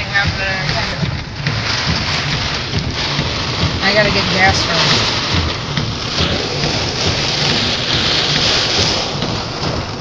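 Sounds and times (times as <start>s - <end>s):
heavy rain on car roof: 0.0s - 10.0s.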